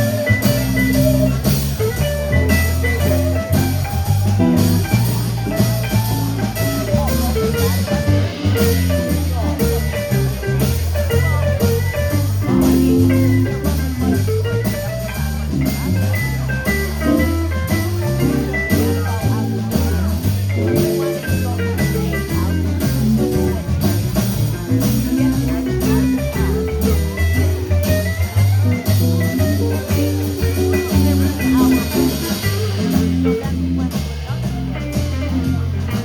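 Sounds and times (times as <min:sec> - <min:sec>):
bass line: 0:00.0 - 0:36.0
drums keeping a beat: 0:00.0 - 0:36.0
guitars: 0:00.0 - 0:36.0.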